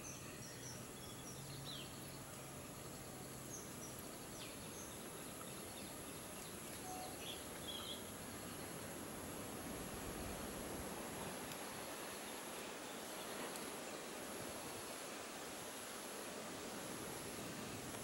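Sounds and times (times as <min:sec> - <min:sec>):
forest hiss: 0:00.0 - 0:18.0.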